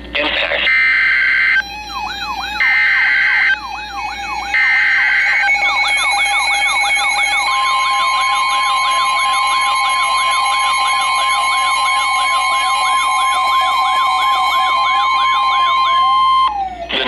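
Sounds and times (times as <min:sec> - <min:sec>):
digital header tones: 0:00.6 - 0:17.0
steady warning alarm tone: 0:00.6 - 0:17.0
warbling siren: 0:00.6 - 0:17.0.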